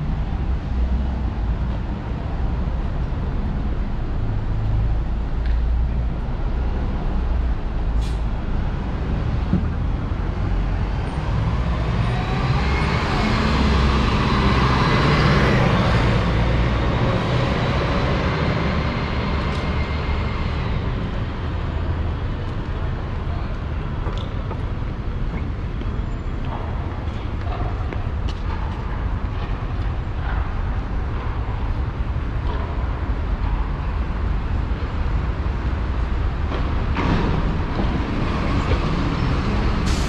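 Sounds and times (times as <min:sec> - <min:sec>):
bus passing: 0:00.0 - 0:40.0
traffic engine rumble: 0:00.0 - 0:40.0.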